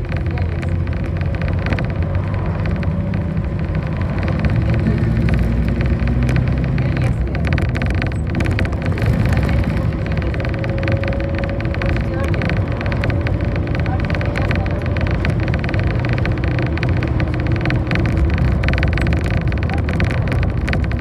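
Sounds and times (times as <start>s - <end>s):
bus engine running: 0.0s - 21.0s
tyre and road noise: 0.0s - 21.0s.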